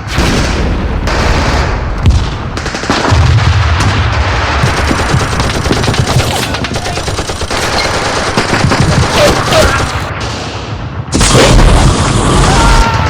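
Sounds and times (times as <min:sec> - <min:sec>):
rapid gunfire: 0:00.0 - 0:12.4.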